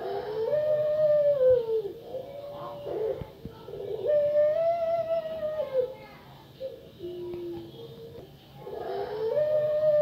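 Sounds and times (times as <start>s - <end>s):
dove cooing: 0.0s - 8.0s, 8.6s - 10.0s.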